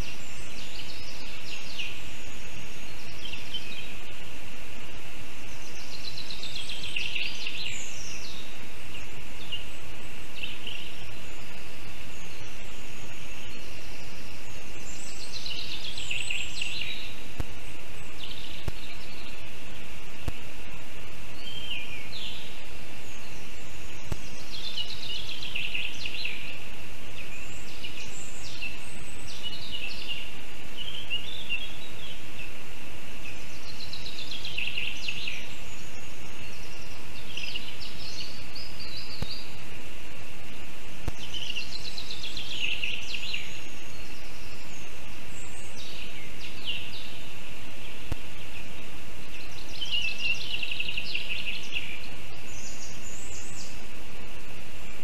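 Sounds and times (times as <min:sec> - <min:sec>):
microphone hiss: 0:00.0 - 0:55.0
songbird singing: 0:00.0 - 0:55.0.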